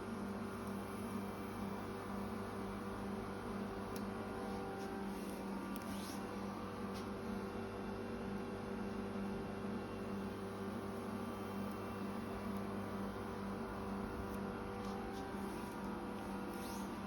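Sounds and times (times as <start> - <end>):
low hum with held tones: 0.0 - 17.0.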